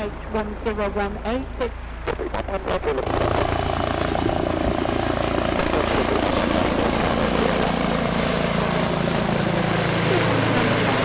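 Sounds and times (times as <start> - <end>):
helicopter rotor beat: 0.0 - 11.0.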